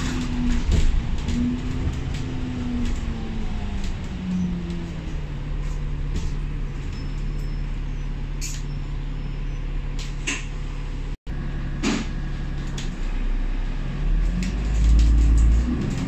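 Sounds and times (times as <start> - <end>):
bus diesel engine: 0.0 - 16.0.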